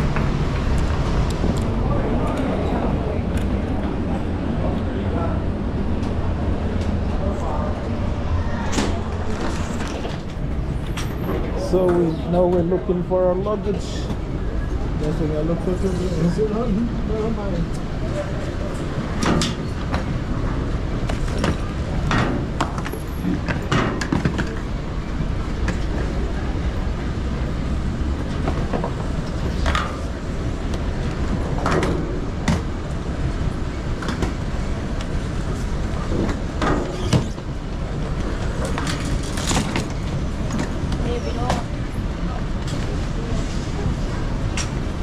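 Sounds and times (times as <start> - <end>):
baggage carousel rumble: 0.0 - 45.0.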